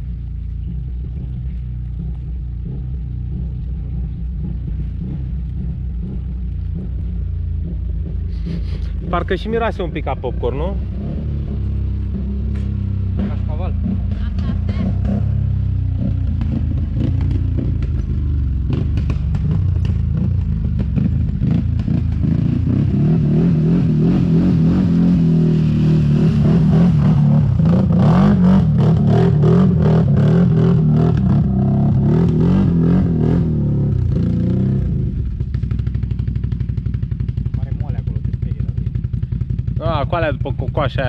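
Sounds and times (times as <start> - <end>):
quad bike engine pulling hard: 0.6 - 41.0.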